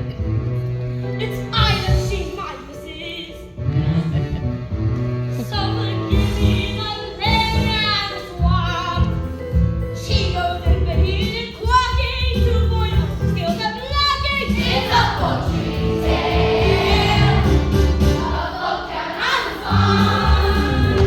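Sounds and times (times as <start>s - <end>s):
instrumental accompaniment with bass: 0.0s - 2.3s, 3.4s - 13.8s, 14.4s - 18.5s, 19.6s - 21.0s.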